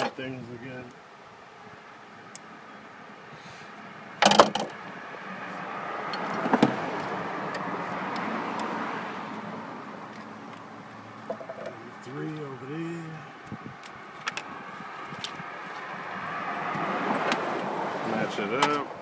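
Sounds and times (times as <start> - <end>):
car passing: 3.0 - 19.0.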